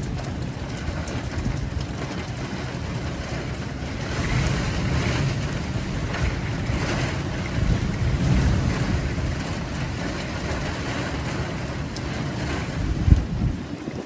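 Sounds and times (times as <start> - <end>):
car engine and tyres rumbling: 0.0 - 14.0
rain hiss: 0.0 - 14.0.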